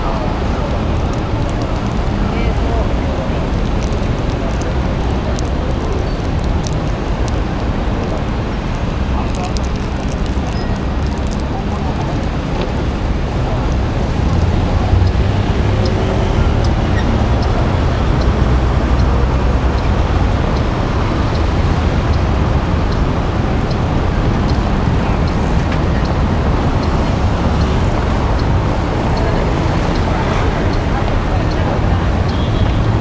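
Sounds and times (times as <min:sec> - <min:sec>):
passing cars rumble: 0:00.0 - 0:33.0
faint regular ticking: 0:00.1 - 0:33.0.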